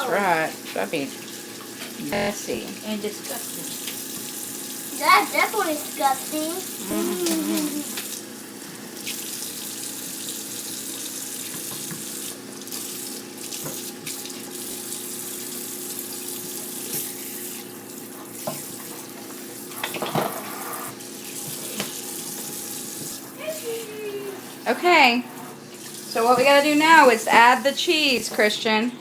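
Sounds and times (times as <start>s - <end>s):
hands washing with soap: 0.0s - 28.5s
faucet running into sink: 0.0s - 28.6s.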